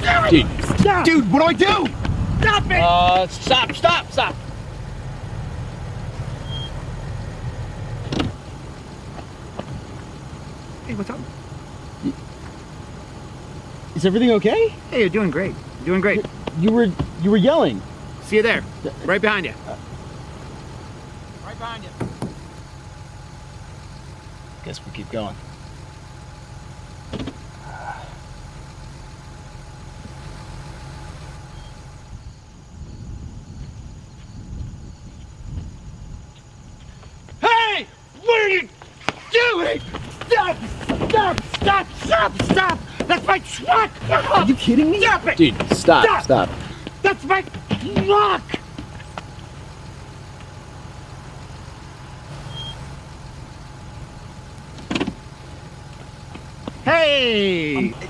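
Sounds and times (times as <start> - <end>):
truck engine rumbling: 0.0 - 58.0
vehicle noise: 0.0 - 58.0.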